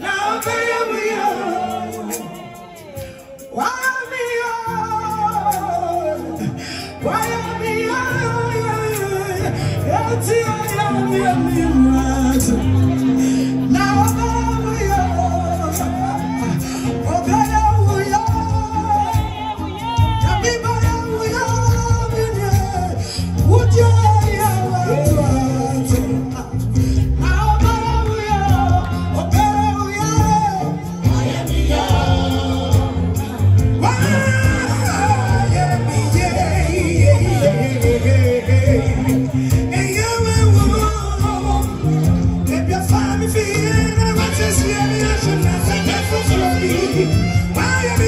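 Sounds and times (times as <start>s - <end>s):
bass line: 0.0s - 48.0s
gospel song with band: 0.0s - 48.0s.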